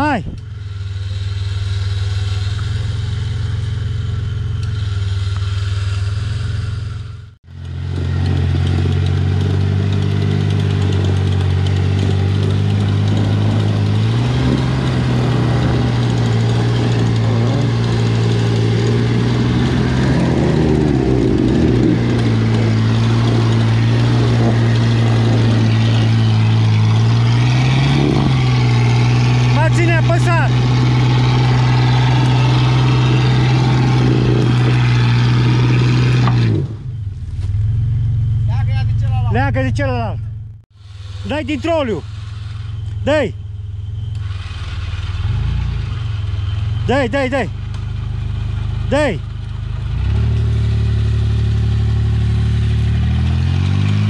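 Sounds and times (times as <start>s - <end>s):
truck engine running at low revs: 0.0s - 54.0s.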